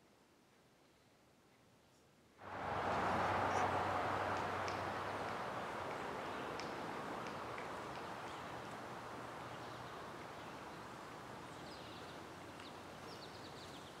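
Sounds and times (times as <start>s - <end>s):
soft steady hiss: 0.0s - 14.0s.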